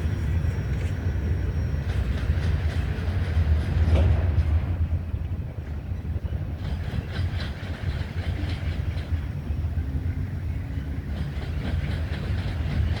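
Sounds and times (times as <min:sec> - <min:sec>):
freight train cars rumbling: 0:00.0 - 0:13.0
wheels clicking on rails: 0:01.8 - 0:13.0.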